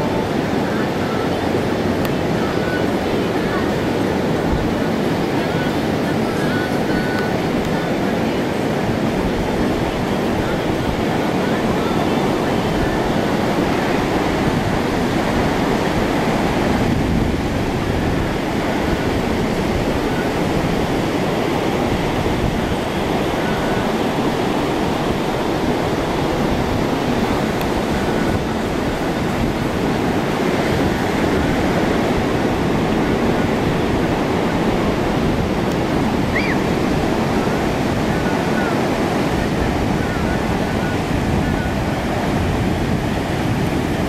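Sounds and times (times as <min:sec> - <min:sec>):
heavy surf breaking on beach: 0:00.0 - 0:44.0.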